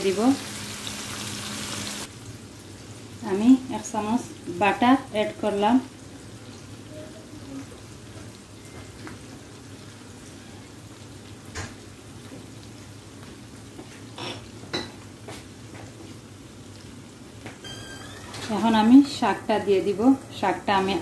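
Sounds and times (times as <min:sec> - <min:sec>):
prawns sizzling in a pan: 0:00.0 - 0:21.0.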